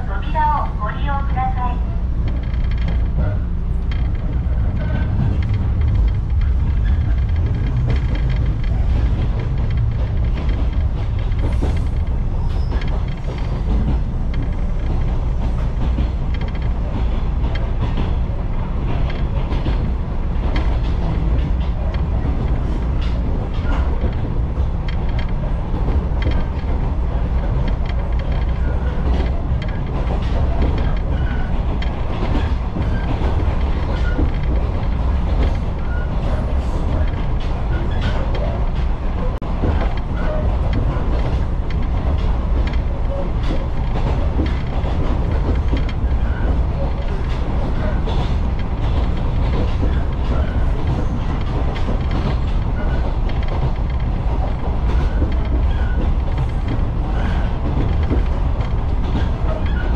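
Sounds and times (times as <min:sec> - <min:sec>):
railcar rumbling: 0:00.0 - 0:59.9
wheels clicking on rail joints: 0:00.0 - 0:59.9.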